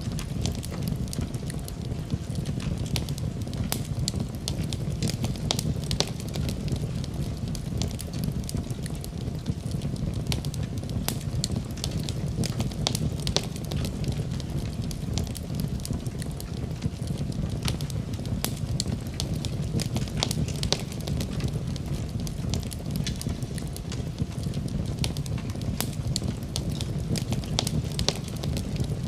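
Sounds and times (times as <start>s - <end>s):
fire crackling in a fireplace: 0.0s - 29.0s.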